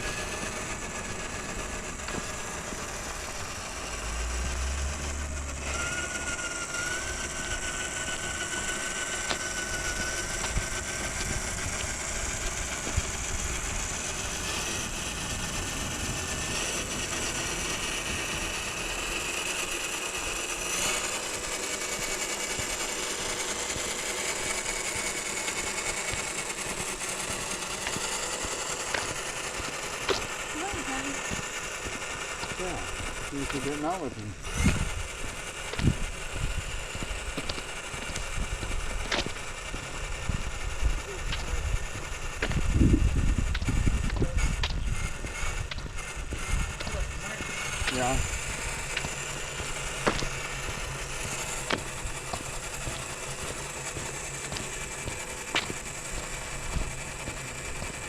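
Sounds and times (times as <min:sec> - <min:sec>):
electric motor and gearbox whine: 0:00.0 - 0:58.0
truck ticking over ground: 0:00.0 - 0:58.0.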